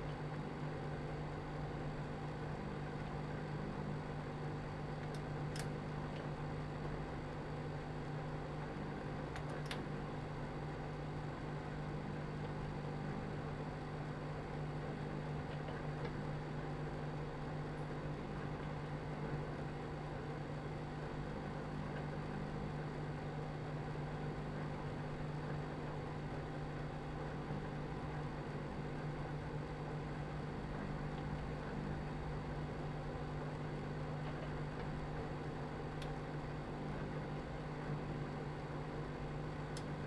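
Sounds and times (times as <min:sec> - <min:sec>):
microwave oven humming: 0:00.0 - 0:40.0.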